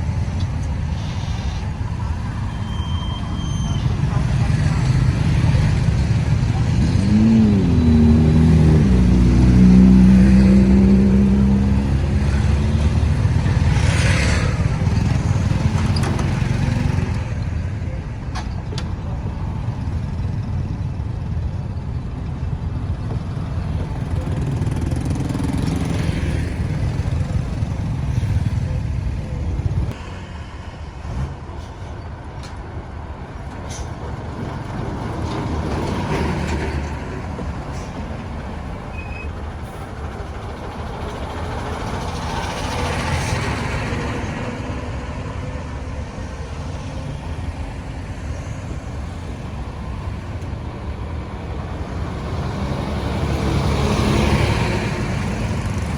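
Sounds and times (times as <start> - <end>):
road traffic rumble: 0.0 - 55.9
vehicles passing close: 0.0 - 55.9.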